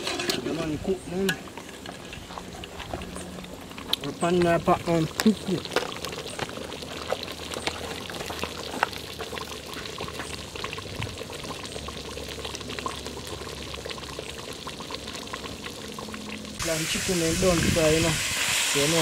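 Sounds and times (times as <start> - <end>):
stew bubbling and popping: 0.0 - 19.0.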